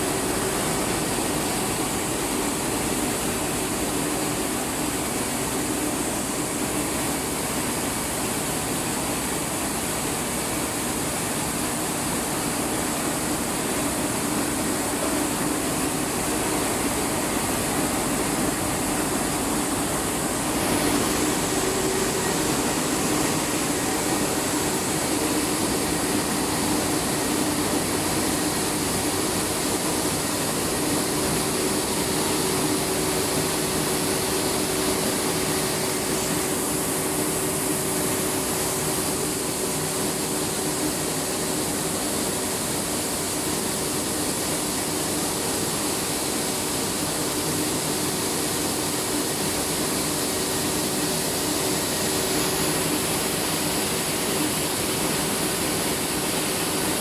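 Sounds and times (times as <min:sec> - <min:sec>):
milling machinery running: 0:08.9 - 0:57.0.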